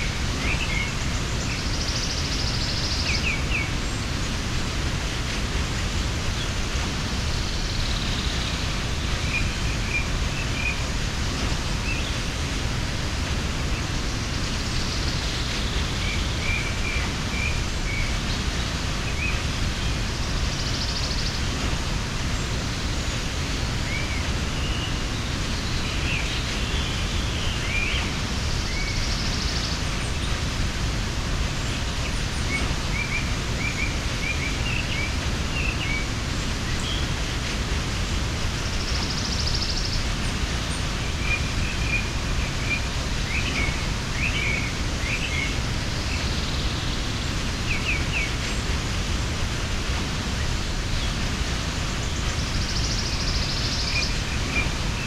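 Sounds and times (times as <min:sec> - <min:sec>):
small birds chirping: 0:00.0 - 0:55.0
waterfall rushing: 0:00.0 - 0:55.0.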